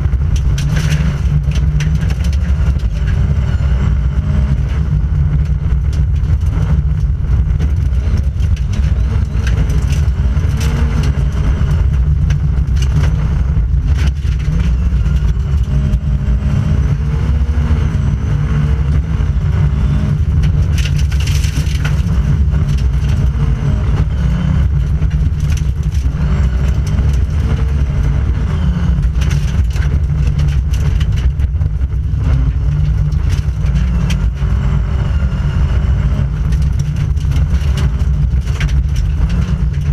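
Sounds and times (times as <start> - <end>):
car knocks and rattles: 0.0 - 17.6, 18.6 - 39.9
rally car engine revving: 0.0 - 39.9.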